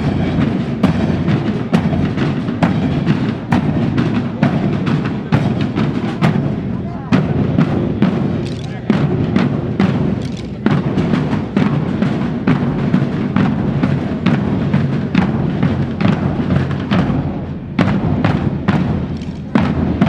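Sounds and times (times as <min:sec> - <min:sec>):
marching band playing: 0:00.0 - 0:20.0
marching drum beat: 0:00.0 - 0:20.0.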